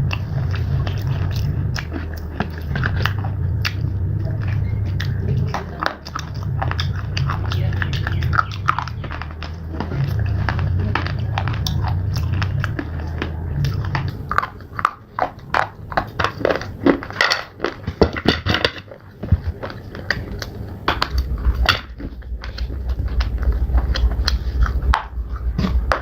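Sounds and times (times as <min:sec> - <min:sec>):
crunching and chewing slate: 0:00.0 - 0:26.0
low rumble: 0:00.0 - 0:26.0.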